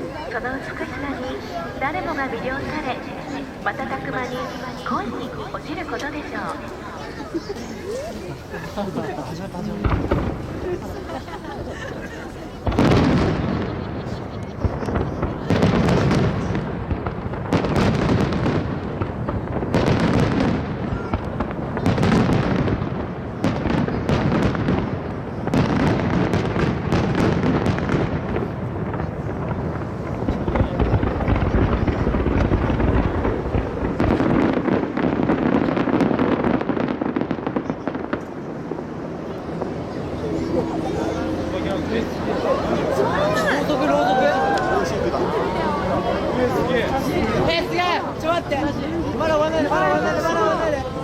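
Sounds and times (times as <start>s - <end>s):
fireworks booming: 0.0s - 51.0s
fireworks crackling: 0.0s - 51.0s.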